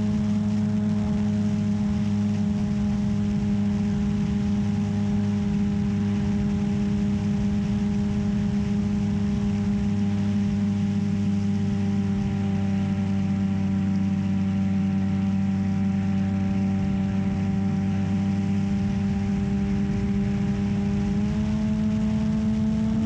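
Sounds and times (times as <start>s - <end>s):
electric motor and propeller hum: 0.0s - 23.0s.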